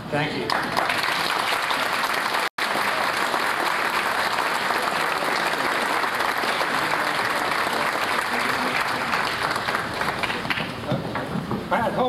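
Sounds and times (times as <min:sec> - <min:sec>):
audience applauding: 0:00.5 - 0:11.4.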